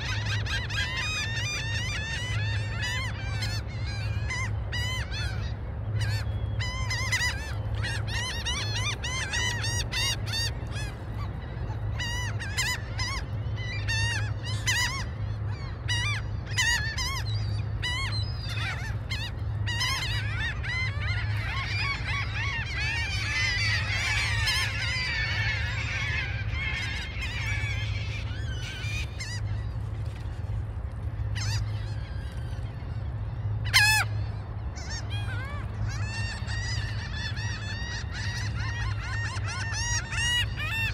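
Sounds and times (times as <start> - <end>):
gulls calling: 0.0 - 40.9.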